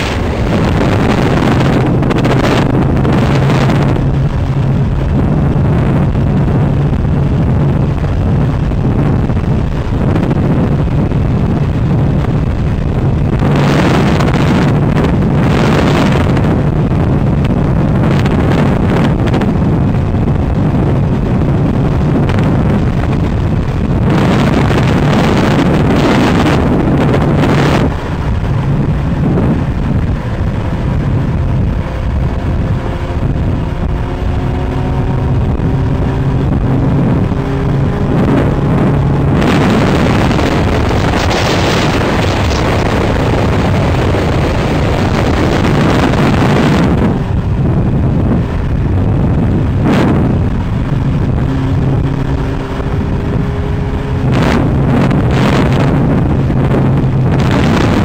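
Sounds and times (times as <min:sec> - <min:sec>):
engine running: 0:00.0 - 0:58.0
wind buffeting microphone: 0:00.0 - 0:58.0.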